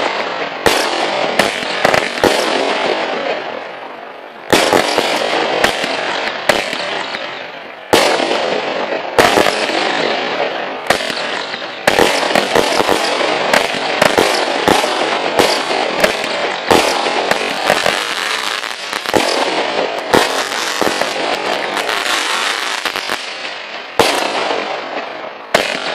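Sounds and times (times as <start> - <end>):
firework bangs: 0.0 - 25.9
firework crackle: 0.0 - 25.9.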